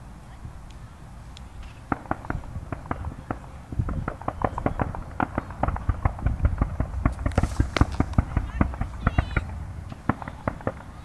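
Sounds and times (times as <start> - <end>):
fireworks crackling: 0.6 - 11.0.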